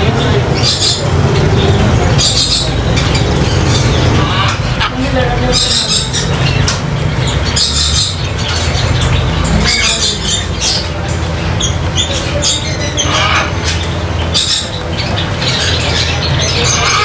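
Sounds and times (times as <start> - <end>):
parrots squawking: 0.0 - 17.0
steady low hum: 0.0 - 17.0.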